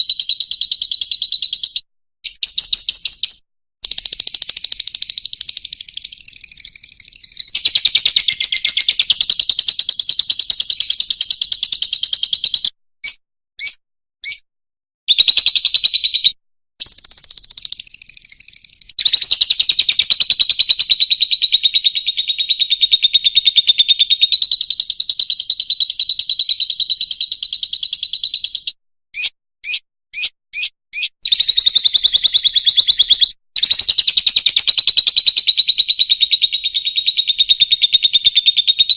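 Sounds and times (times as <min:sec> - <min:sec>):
lovebird chattering trills: 0:02.3 - 0:14.4, 0:16.8 - 0:28.6, 0:29.2 - 0:38.9.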